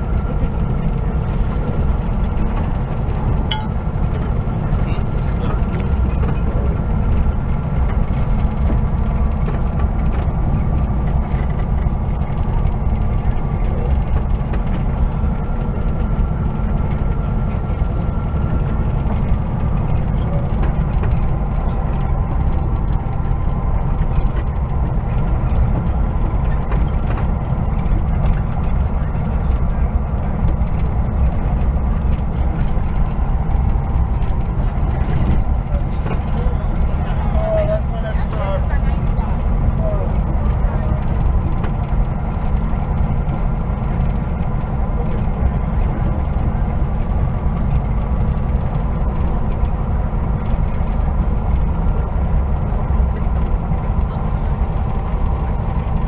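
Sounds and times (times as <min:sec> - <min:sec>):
van engine running: 0:00.0 - 0:56.0.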